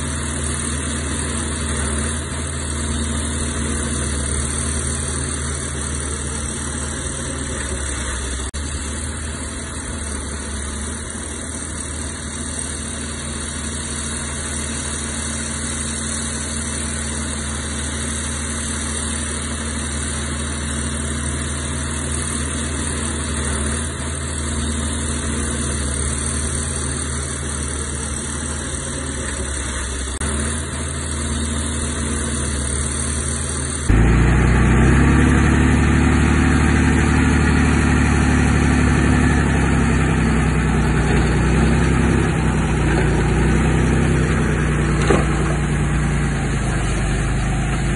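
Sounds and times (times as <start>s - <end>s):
heavy diesel engine running: 0.0s - 47.9s.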